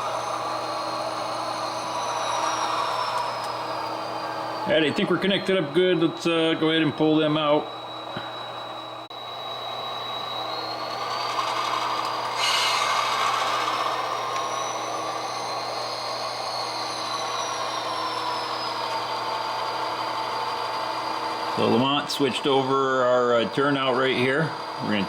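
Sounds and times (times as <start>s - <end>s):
model locomotive motor whine: 0.0s - 25.0s.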